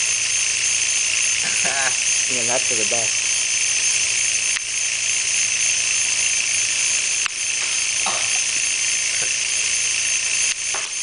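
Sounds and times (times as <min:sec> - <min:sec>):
motor whining high-pitched: 0:00.0 - 0:11.0.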